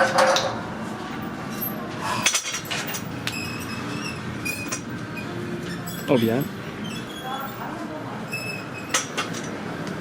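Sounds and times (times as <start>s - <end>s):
gym background noise: 0.0s - 10.0s.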